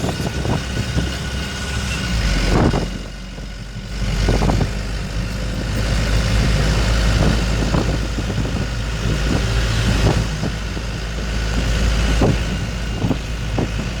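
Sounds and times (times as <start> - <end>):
diesel truck engine rumbling: 0.0 - 14.0.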